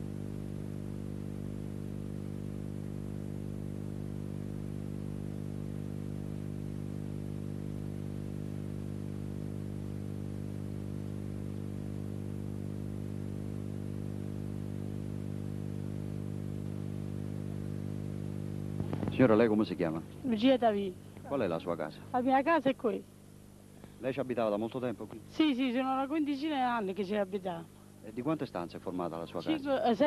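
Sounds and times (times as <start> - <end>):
mains hum: 0.0 - 30.0.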